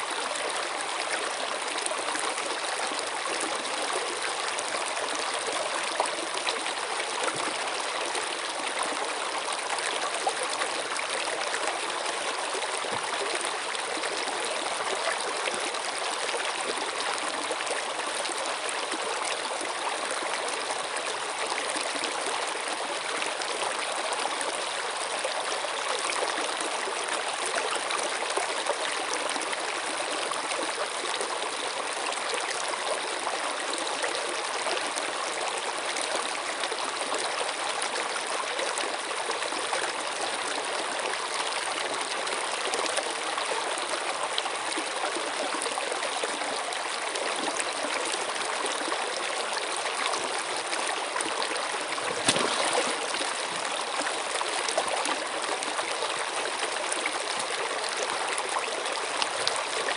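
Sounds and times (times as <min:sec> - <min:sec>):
running water rushing and trickling: 0:00.0 - 0:59.9.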